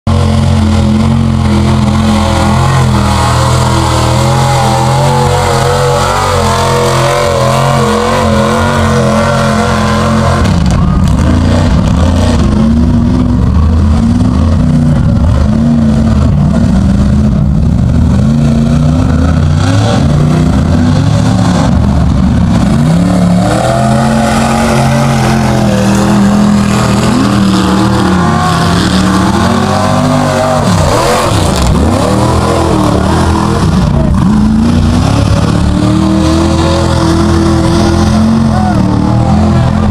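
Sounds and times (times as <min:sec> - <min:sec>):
pickup truck engine revving: 0:00.0 - 0:39.9.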